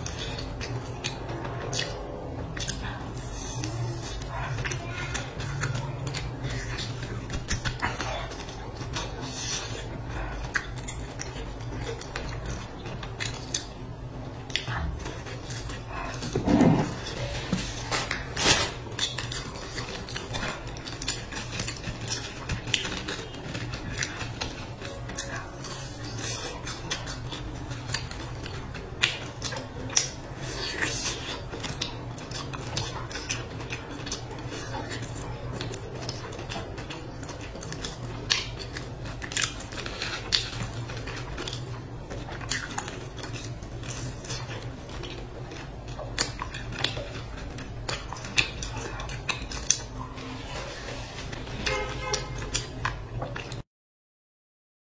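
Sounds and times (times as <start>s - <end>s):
chewing crunchy pastry: 0.0s - 53.6s
steady low hum: 0.0s - 53.6s.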